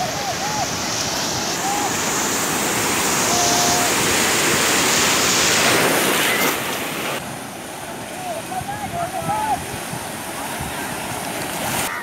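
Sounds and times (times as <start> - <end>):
small ocean waves breaking: 0.0 - 12.0
whitewater rushing: 0.0 - 12.0.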